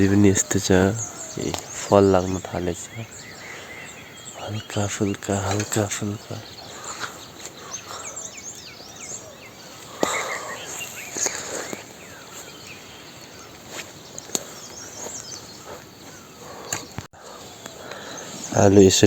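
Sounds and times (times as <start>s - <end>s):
faint birds chirping: 0.0s - 19.0s
insect noise: 0.0s - 19.0s.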